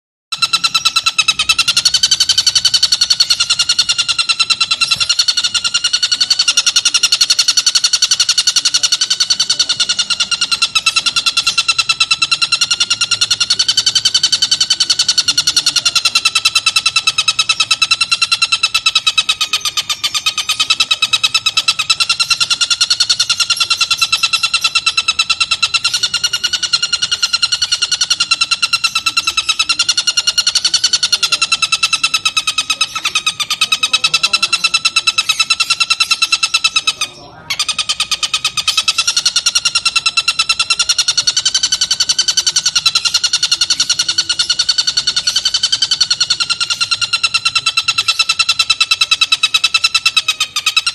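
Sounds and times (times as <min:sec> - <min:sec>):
bird chattering cackle: 0:00.3 - 0:50.9.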